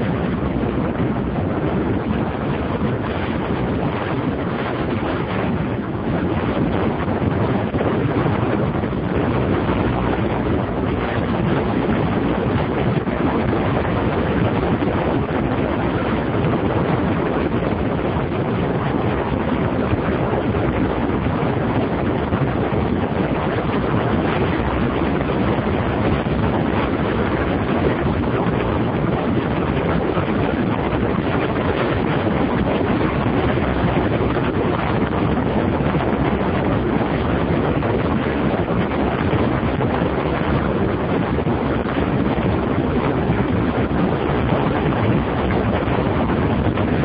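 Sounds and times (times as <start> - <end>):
wind rush on microphone: 0.0 - 47.0.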